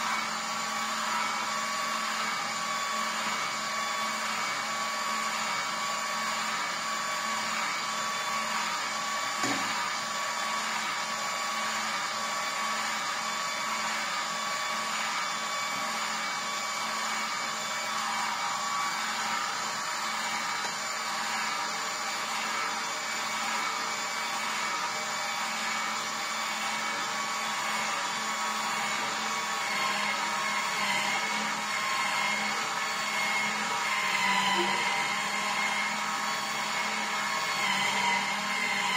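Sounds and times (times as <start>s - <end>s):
juicer motor running: 0.0s - 38.9s.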